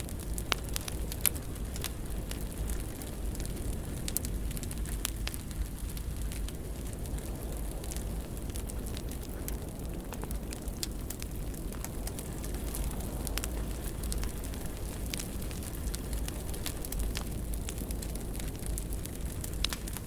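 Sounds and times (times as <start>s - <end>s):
fire crackling and popping: 0.0s - 20.0s
fire low rumble: 0.0s - 20.0s.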